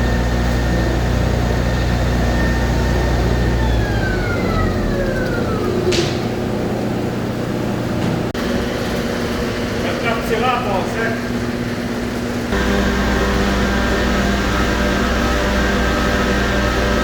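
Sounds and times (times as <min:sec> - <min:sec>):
electric motor hum and whine: 0:00.0 - 0:09.8, 0:11.4 - 0:17.0.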